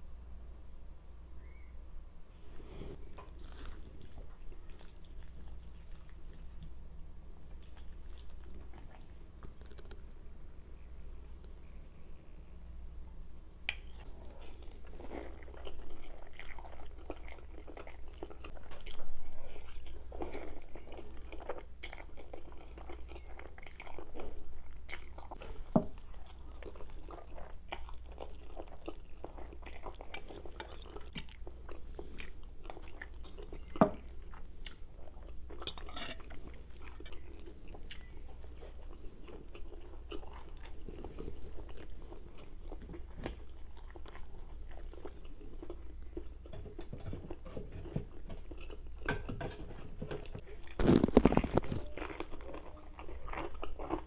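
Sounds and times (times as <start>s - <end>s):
chewing and sucking spaghetti: 2.5s - 6.8s, 7.4s - 10.1s, 13.9s - 54.0s.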